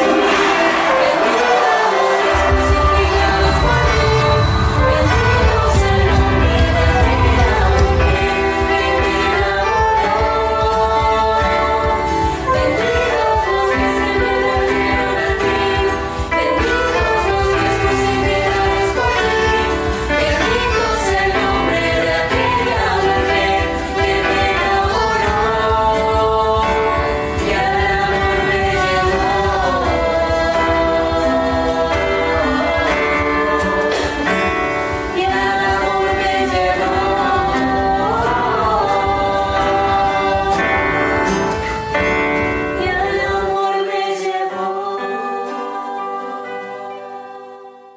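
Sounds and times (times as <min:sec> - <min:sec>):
group singing a hymn: 0:00.0 - 0:47.9
instrumental accompaniment: 0:00.0 - 0:47.9.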